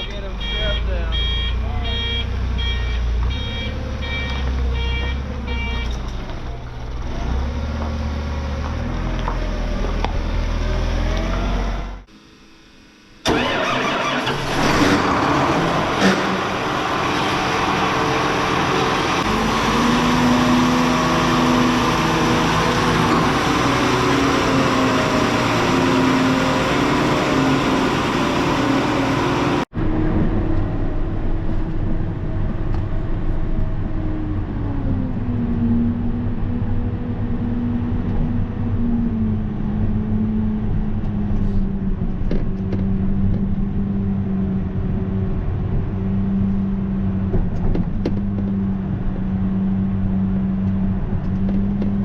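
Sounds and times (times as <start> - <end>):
road noise: 0.0 - 12.1, 13.2 - 52.0.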